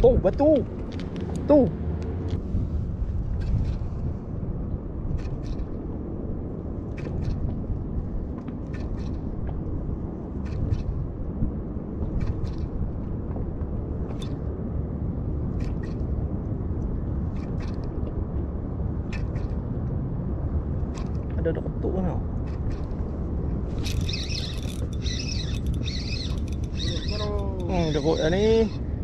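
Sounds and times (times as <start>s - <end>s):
wind and water rumble: 0.0s - 29.0s.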